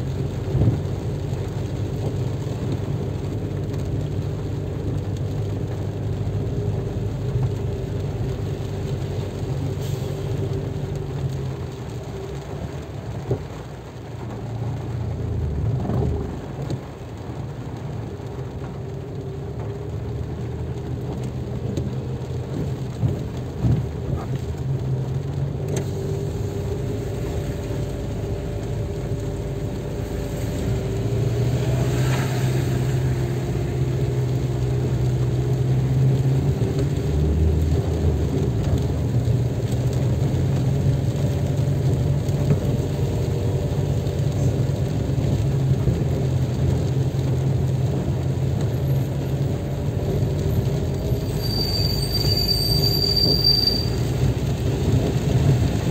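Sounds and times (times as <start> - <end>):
car engine and road hum: 0.0 - 55.9
rain on windshield: 0.0 - 55.9.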